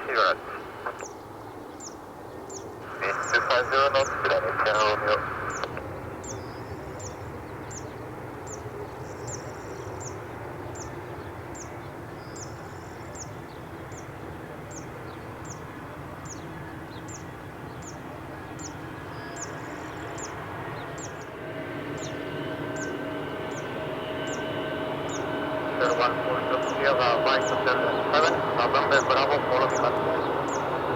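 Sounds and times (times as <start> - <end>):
low rumble of airport: 0.0 - 30.9.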